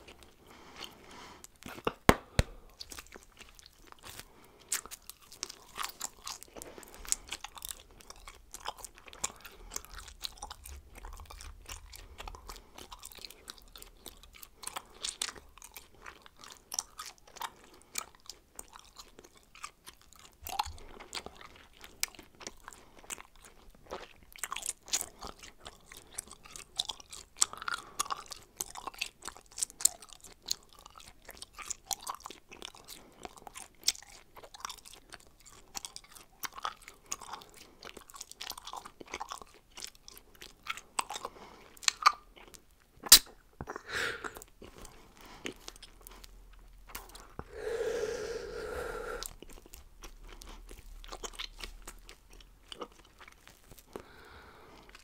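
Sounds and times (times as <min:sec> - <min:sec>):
person chewing bubblegum: 0:00.0 - 0:55.0.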